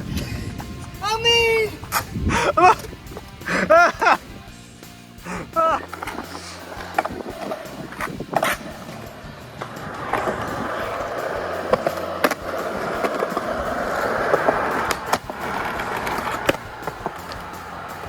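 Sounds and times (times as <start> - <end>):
skateboard clacking on ground: 0.0 - 4.6, 5.2 - 18.0
skateboard wheels rolling: 0.0 - 18.0.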